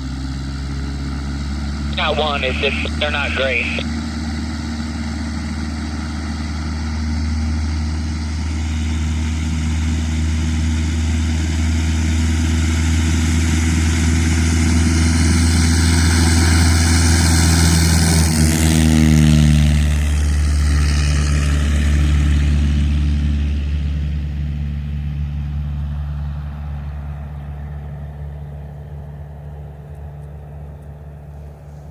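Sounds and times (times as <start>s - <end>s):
propeller plane passing: 0.0s - 31.9s.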